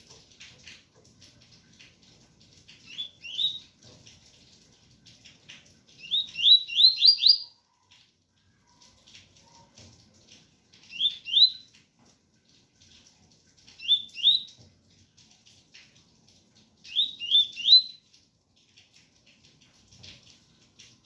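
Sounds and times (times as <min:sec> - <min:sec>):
faint rain patter: 0:00.0 - 0:21.0.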